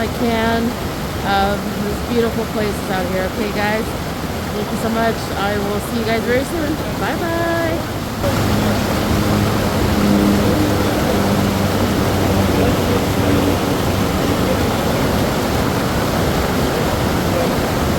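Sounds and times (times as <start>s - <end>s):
low engine drone: 0.0s - 17.9s
waterfall rushing: 0.0s - 17.9s.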